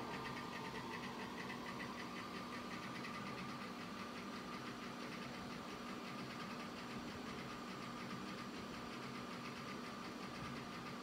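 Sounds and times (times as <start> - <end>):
computer fan and drive whine: 0.0 - 11.0
faint rapid ticking: 0.0 - 11.0.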